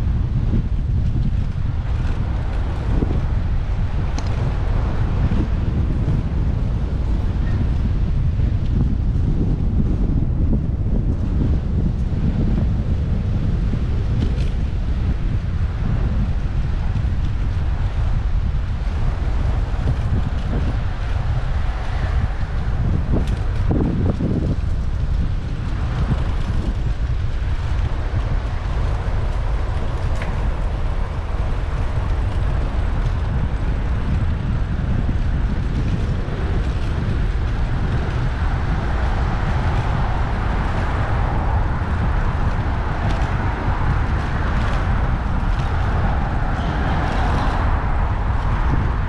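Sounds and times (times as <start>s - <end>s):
road and traffic noise: 0.0s - 49.0s
wind buffeting microphone: 0.0s - 49.0s.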